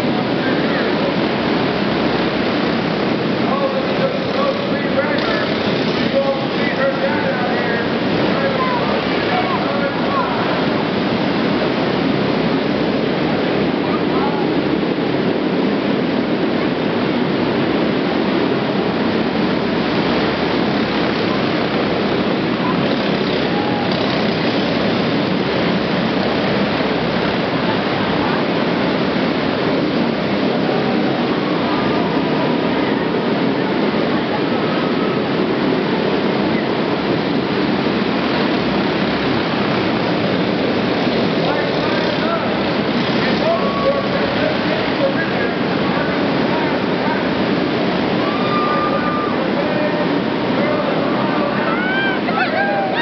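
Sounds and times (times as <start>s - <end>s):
kart engines racing: 0.0s - 53.0s.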